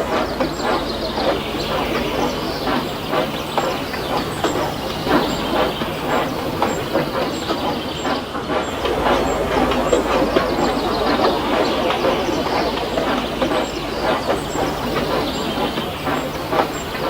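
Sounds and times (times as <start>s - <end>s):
train clattering over rails: 0.0s - 17.0s
train rumble: 0.0s - 17.0s.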